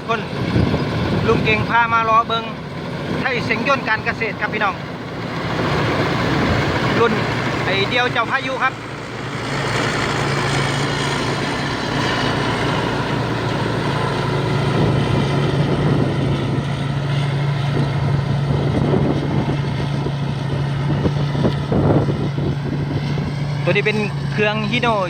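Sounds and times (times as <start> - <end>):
combine harvester engine droning: 0.0 - 25.0.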